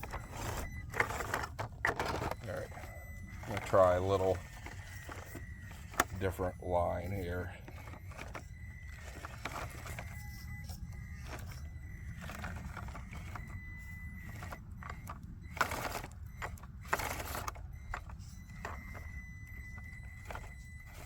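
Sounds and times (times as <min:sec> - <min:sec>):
small electric motor whining: 0:00.0 - 0:21.0
toy truck scraping on rocks: 0:00.0 - 0:21.0.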